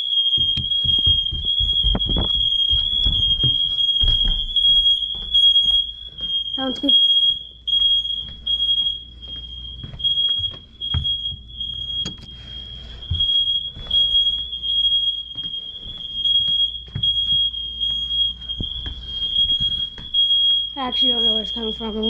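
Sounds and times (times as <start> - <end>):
shrill smoke alarm tone: 0.0 - 22.0.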